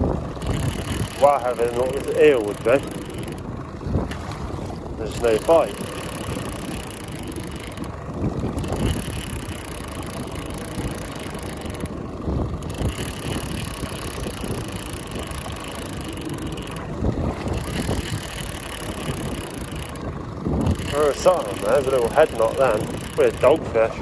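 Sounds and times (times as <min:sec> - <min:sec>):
water lapping around boat: 0:00.0 - 0:24.0
wind on microphone: 0:00.0 - 0:24.0.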